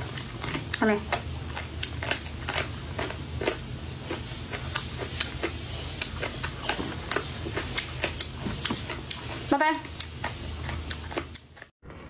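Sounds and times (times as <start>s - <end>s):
chewing crunchy food: 0.0s - 11.7s.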